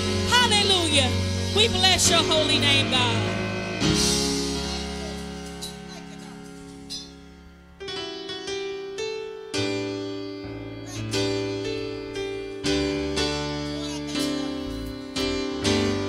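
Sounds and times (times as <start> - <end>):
church keyboard playing held chords: 0.0 - 16.0.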